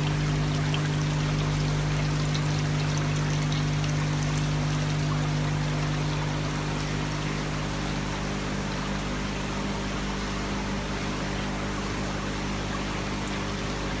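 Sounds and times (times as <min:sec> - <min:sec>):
fountain water trickling and splashing: 0:00.0 - 0:14.0
steady low hum: 0:00.0 - 0:14.0.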